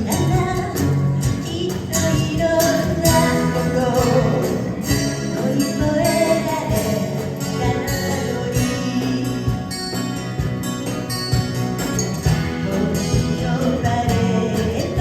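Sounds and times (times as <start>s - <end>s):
person singing: 0.0s - 10.2s, 12.1s - 15.0s
strummed guitar: 0.0s - 15.0s.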